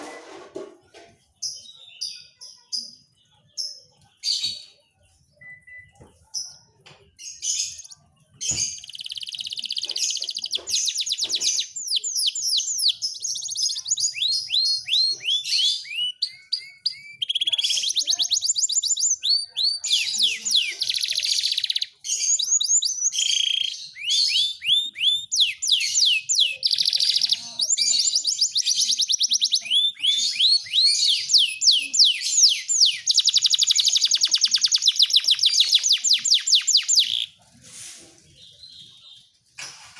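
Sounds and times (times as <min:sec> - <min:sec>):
canary singing: 0:01.4 - 0:37.4.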